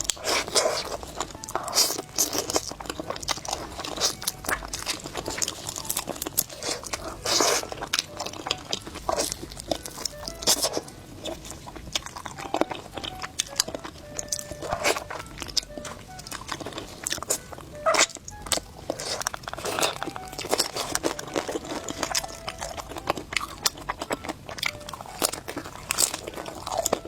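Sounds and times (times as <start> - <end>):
crunching and chewing: 0.0 - 27.0.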